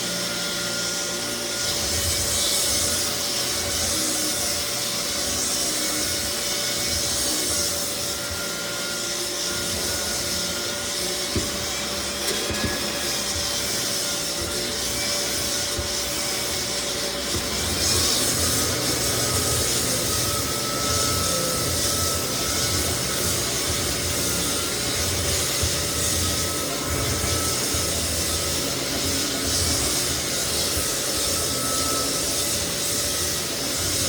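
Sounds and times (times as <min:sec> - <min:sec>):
abrasive sanding hiss: 0:00.0 - 0:34.0
floor sander motor hum: 0:00.0 - 0:34.0.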